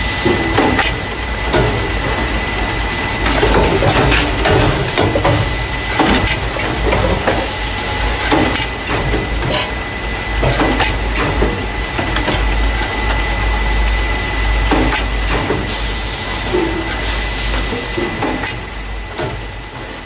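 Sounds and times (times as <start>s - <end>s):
mechanical clacks and knocks: 0.2s - 13.4s, 14.6s - 15.8s, 16.4s - 19.5s.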